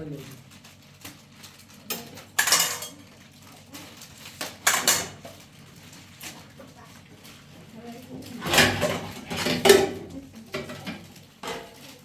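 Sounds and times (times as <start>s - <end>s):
objects clattering and scraping: 0.2s - 12.0s.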